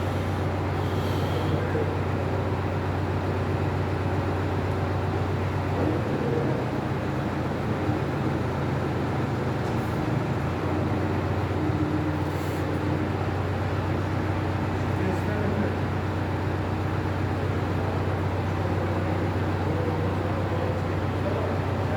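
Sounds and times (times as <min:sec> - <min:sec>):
truck engine humming: 0:00.0 - 0:21.9.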